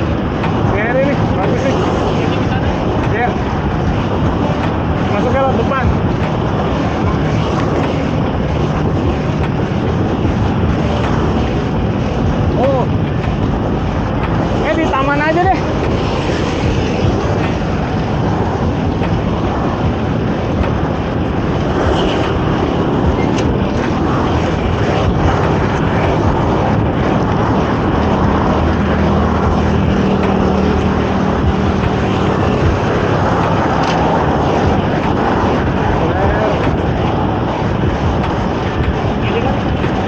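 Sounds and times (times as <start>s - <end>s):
traffic noise: 0.0s - 40.0s
vehicle engine droning: 0.0s - 40.0s
wind rushing over microphone: 0.0s - 40.0s.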